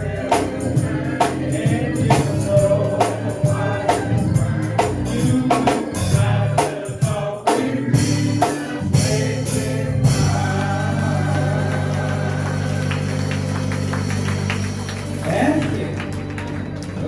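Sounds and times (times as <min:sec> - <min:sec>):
instrumental accompaniment: 0:00.0 - 0:17.0
percussion hits on the beat: 0:00.0 - 0:17.0
voices singing a gospel hymn: 0:00.0 - 0:17.0.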